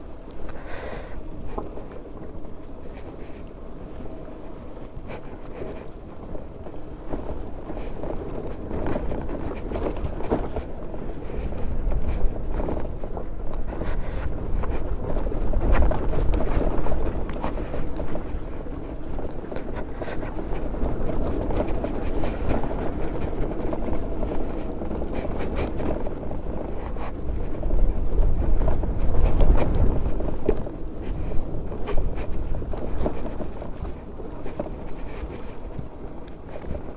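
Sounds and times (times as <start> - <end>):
scooter rattling over bumps: 0.0 - 36.9
wind rumbling on microphone: 0.0 - 36.9.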